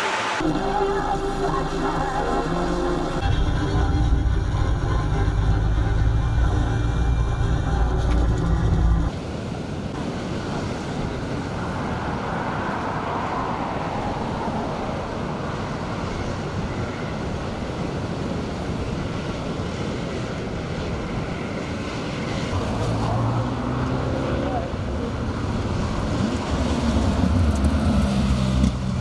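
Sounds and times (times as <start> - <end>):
breaking surf: 0.0 - 29.0
strong wind rushing: 0.0 - 29.0.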